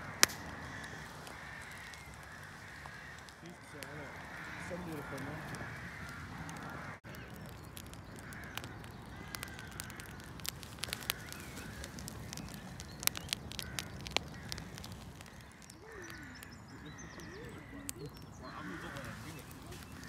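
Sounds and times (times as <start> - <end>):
faint birds calling: 0.0 - 20.0
log fire crackling and popping: 0.0 - 20.0.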